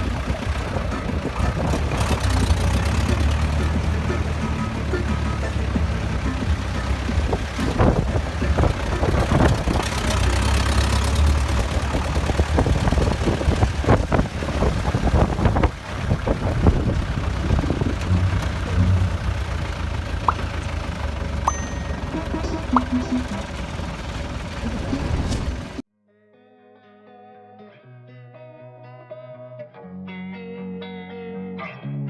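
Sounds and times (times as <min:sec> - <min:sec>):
vehicle engine running: 0:00.0 - 0:25.8.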